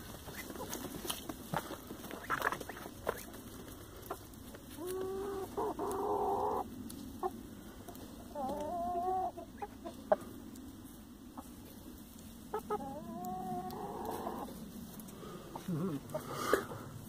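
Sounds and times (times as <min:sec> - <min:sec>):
hens calling: 0:00.0 - 0:17.0.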